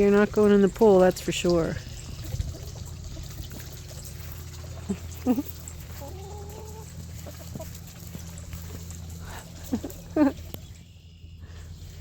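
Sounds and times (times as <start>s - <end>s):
chickens clucking: 0.0s - 11.9s
steady low hum: 0.0s - 12.0s.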